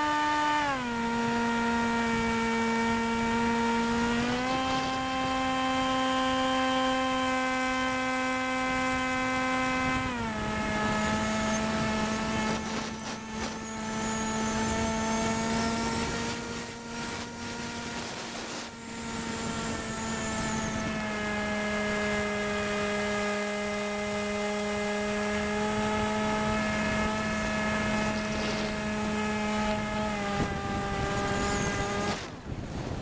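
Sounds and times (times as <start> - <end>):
model airplane motor buzzing: 0.0 - 33.0.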